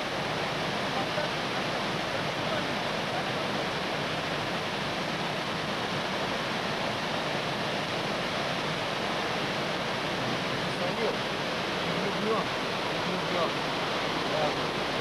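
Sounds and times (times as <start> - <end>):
whitewater rushing: 0.0 - 15.0.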